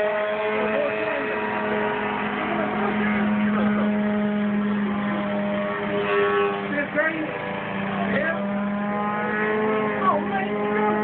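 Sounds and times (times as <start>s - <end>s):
model airplane motor: 0.0s - 11.0s.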